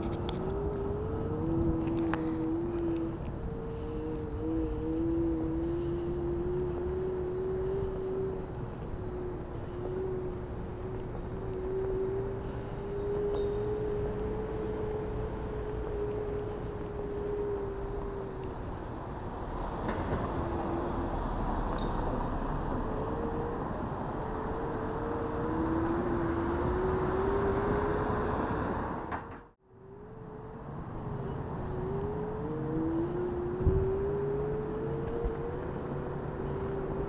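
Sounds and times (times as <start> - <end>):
electric scooter motor whining: 0.0 - 19.6, 20.3 - 28.8, 29.8 - 37.0
road noise: 0.0 - 37.0.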